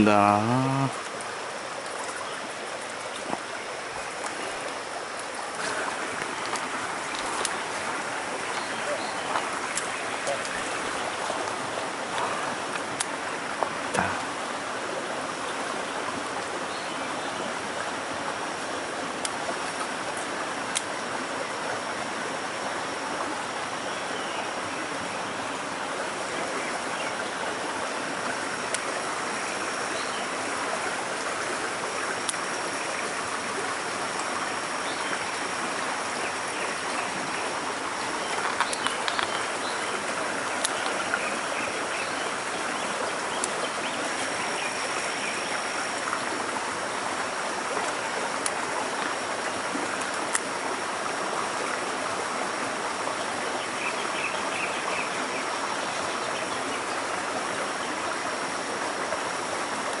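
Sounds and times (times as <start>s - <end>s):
stream water trickling over rocks: 0.0s - 60.0s.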